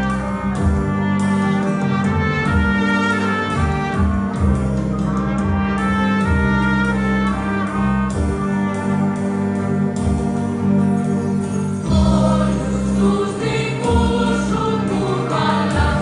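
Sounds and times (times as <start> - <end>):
military wind band playing: 0.0 - 13.3
acoustic guitar: 0.0 - 16.0
drums: 0.0 - 16.0.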